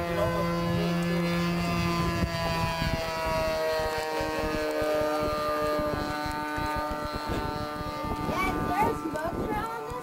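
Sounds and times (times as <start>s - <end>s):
model airplane engine in flight: 0.0s - 10.0s
wind buffeting microphone: 0.0s - 10.0s.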